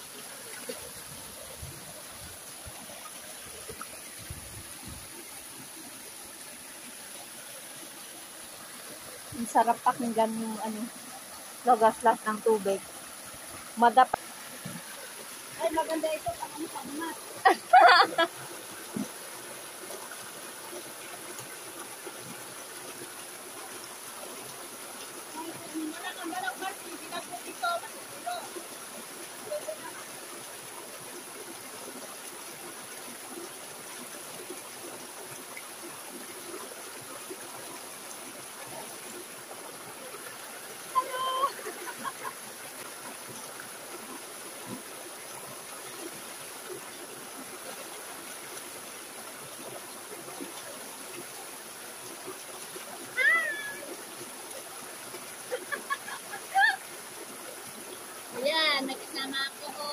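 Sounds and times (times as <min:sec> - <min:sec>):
stream water splashing over rocks: 0:00.0 - 0:59.9.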